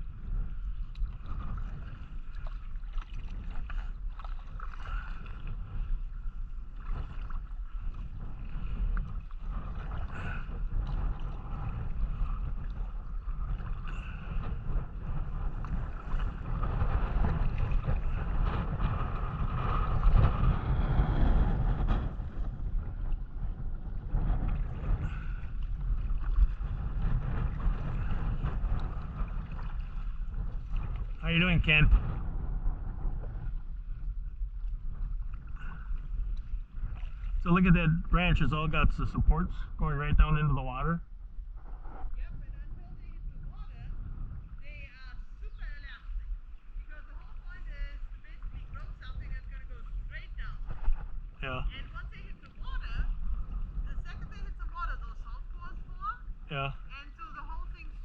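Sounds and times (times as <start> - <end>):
paddle splashing water: 0.0 - 38.4, 41.2 - 58.0
wind rumbling on microphone: 0.0 - 58.0.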